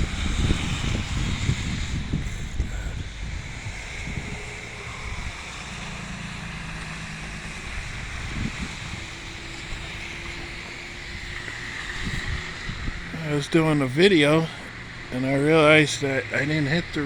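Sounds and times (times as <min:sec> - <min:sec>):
low continuous rumble: 0:00.0 - 0:17.0
wind buffeting microphone: 0:00.0 - 0:17.0.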